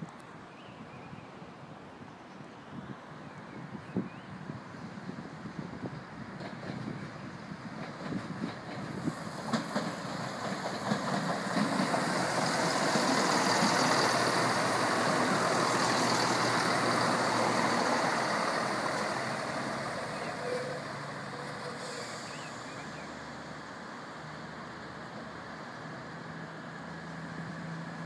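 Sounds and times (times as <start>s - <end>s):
diesel train passing: 4.3s - 28.0s.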